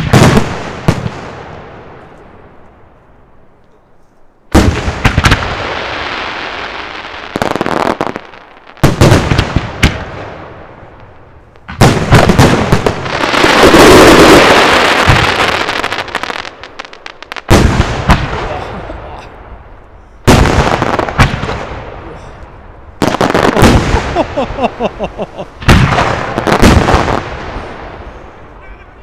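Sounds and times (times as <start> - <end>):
firework crackles: 4.6 - 19.1, 20.2 - 29.0.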